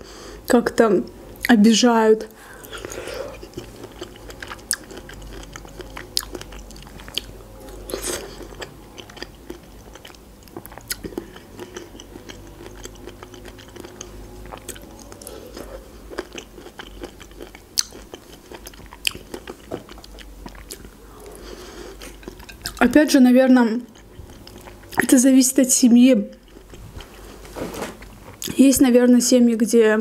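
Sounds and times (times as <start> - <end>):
person chewing pineapple: 2.4 - 23.0, 23.7 - 25.2, 26.3 - 28.6.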